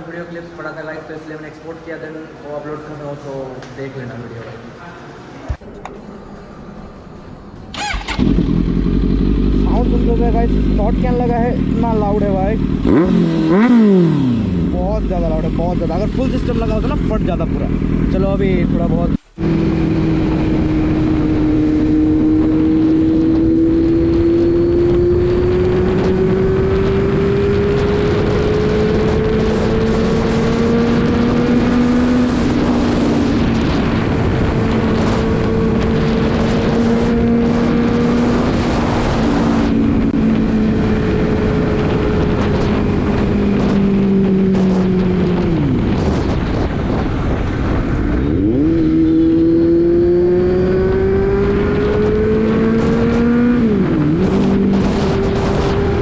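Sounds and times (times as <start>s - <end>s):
motorcycle engine running: 7.8s - 56.0s.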